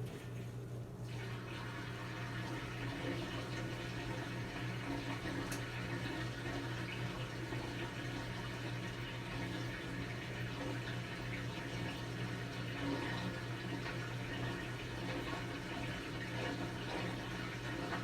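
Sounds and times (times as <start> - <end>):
water rushing into washing machine: 0.0 - 18.0.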